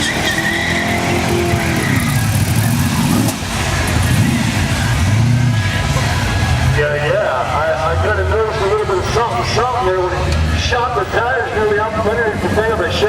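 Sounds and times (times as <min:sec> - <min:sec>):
car engines idling and revving: 0:00.0 - 0:13.0.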